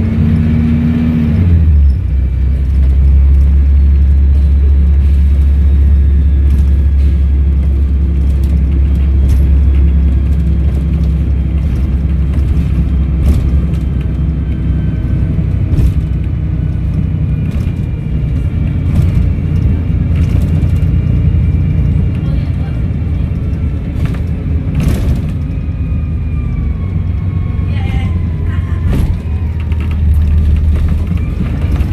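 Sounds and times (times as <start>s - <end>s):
bus diesel engine running: 0.0s - 31.9s.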